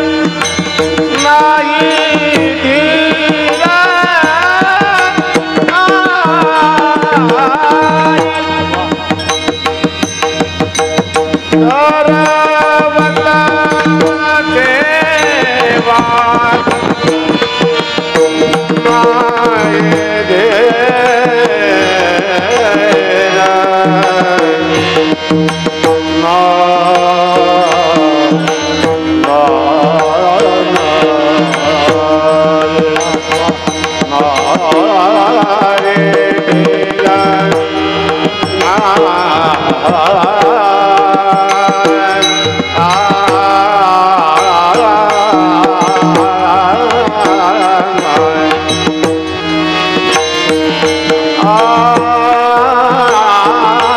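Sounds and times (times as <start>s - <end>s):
man singing: 0.0s - 53.9s
tabla: 0.0s - 53.9s.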